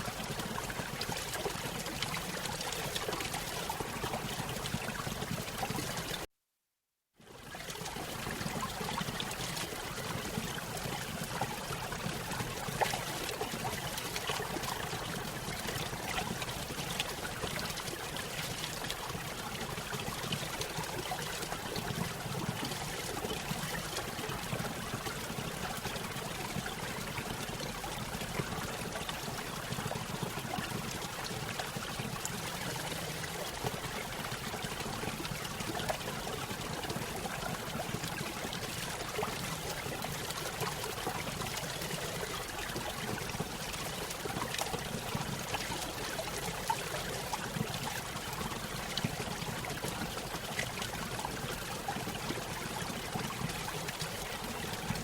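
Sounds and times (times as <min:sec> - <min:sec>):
water trickling and splashing: 0:00.0 - 0:06.2, 0:07.4 - 0:55.0.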